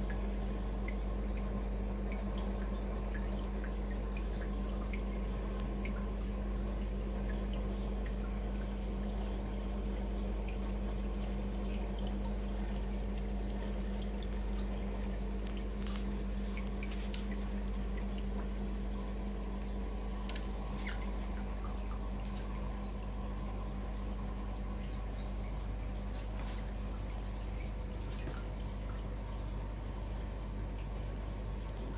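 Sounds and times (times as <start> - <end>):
faint drip-like ticks: 0.0 - 31.9
low pump hum: 0.0 - 31.9
water trickling and splashing: 0.0 - 31.9.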